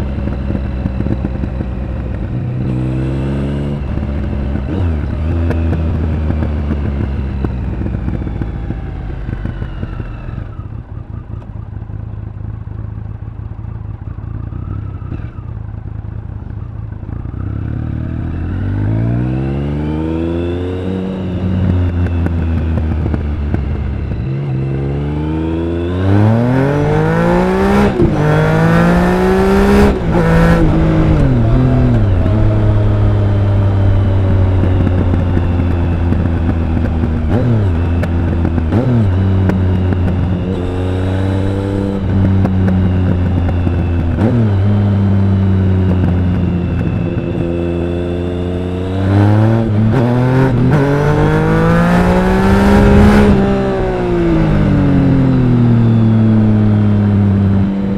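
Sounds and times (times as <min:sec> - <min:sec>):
motorcycle engine revving through gears: 0:00.0 - 0:57.9.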